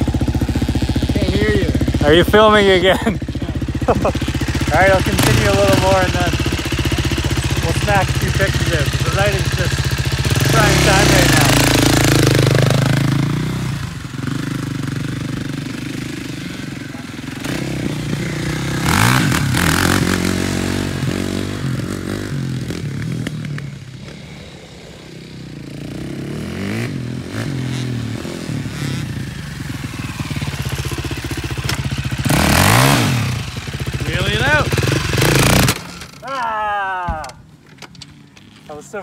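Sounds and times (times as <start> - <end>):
quad engine revving: 0.0 - 36.2.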